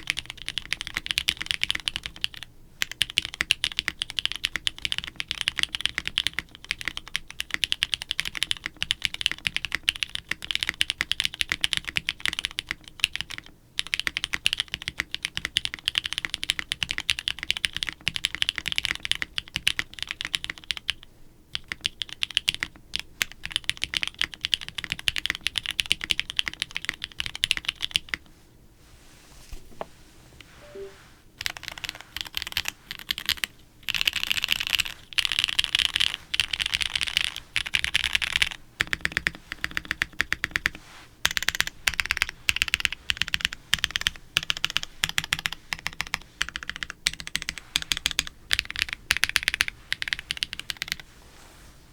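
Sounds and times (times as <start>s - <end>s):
fast mechanical keyboard typing: 0.0s - 28.2s, 31.4s - 51.0s.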